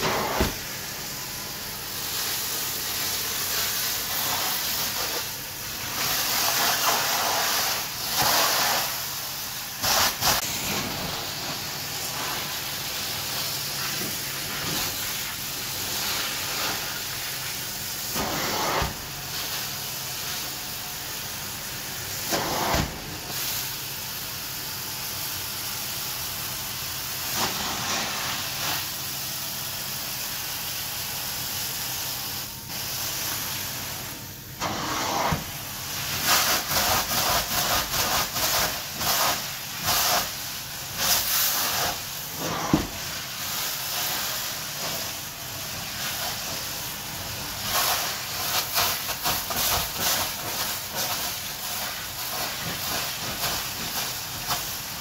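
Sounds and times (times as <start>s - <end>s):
carpet extraction wand hissing: 0.0s - 21.2s, 22.2s - 23.8s, 31.8s - 55.0s.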